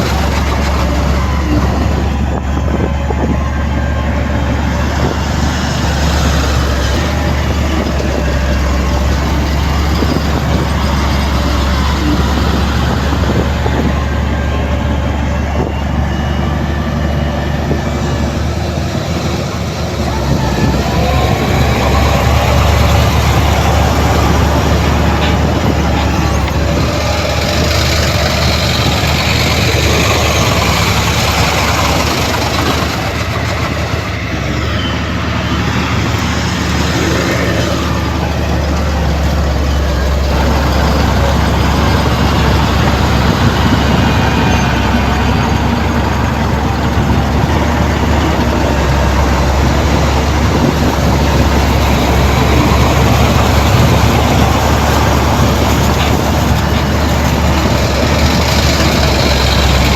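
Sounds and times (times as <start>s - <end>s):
diesel machinery engine hum: 0.0s - 59.9s
rushing rattling noise: 0.0s - 59.9s.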